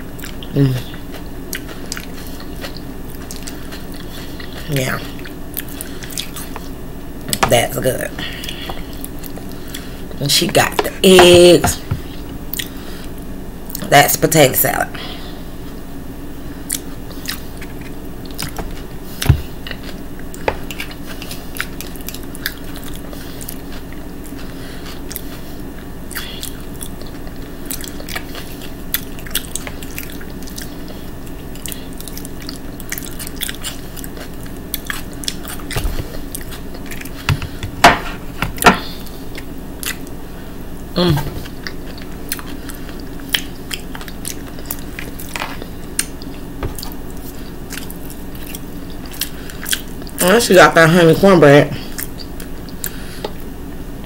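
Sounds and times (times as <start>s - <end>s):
person chewing and smacking: 0.0s - 7.5s, 8.2s - 13.9s, 16.6s - 40.2s, 41.4s - 50.3s, 51.8s - 53.5s.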